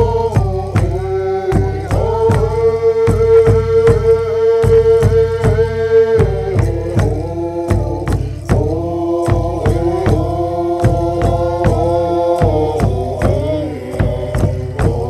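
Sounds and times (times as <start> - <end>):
steady drum beat: 0.0 - 15.0
voices chanting held notes: 0.0 - 15.0.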